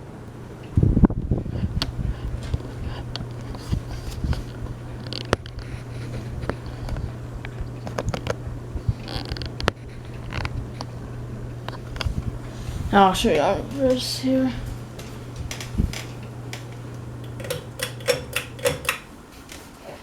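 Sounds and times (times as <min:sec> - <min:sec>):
ceiling fan motor humming: 0:00.0 - 0:20.0.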